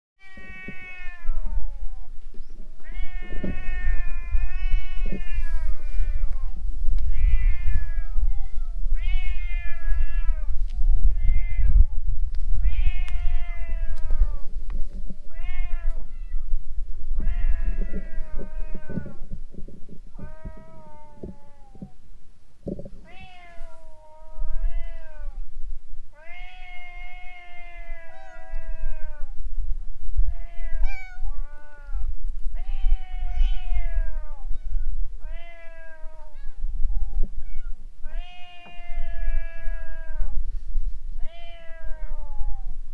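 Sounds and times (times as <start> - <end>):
cats meowing: 0.2 - 12.0, 12.6 - 14.5, 15.3 - 16.6, 17.2 - 19.3, 20.1 - 22.0, 23.0 - 25.4, 26.2 - 29.4, 30.2 - 40.4, 41.2 - 42.8.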